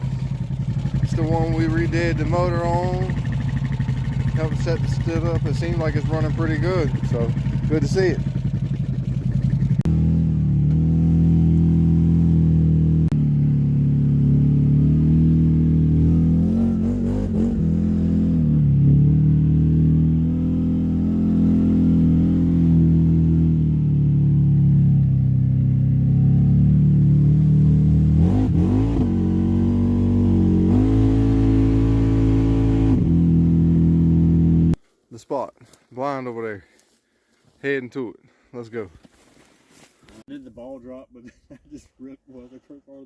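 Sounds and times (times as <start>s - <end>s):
car engine running: 0.0s - 34.7s.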